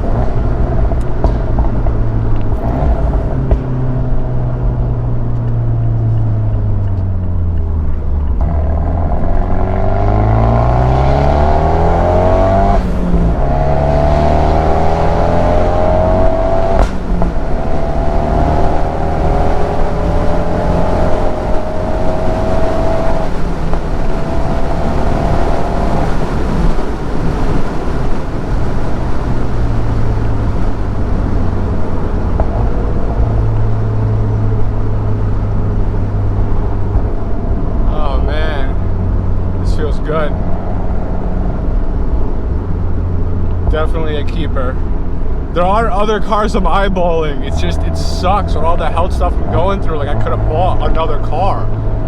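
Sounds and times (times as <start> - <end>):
car engine accelerating through gears: 0.0 - 52.0.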